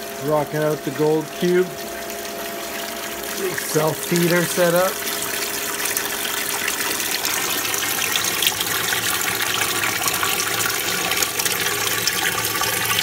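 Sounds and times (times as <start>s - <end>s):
water pouring and churning: 0.0s - 13.0s.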